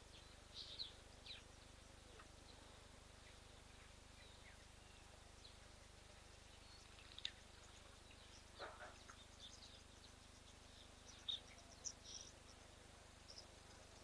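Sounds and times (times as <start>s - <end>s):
bird chirps: 0.0s - 5.6s, 6.3s - 14.0s
steady low hum: 0.0s - 14.0s.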